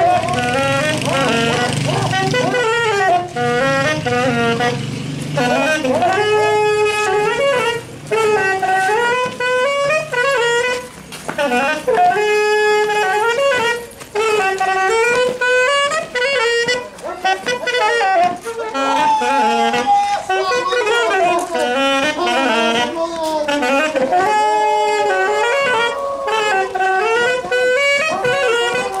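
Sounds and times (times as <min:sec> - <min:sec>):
faint voices: 0:00.0 - 0:29.0
lively folk melody: 0:00.0 - 0:29.0.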